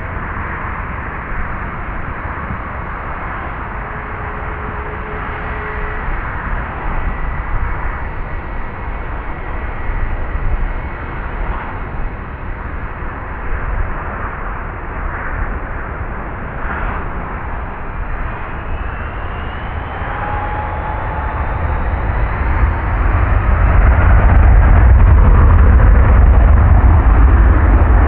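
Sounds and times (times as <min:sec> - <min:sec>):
jet engines roaring: 0:00.0 - 0:28.0
rising engine whine: 0:00.0 - 0:28.0.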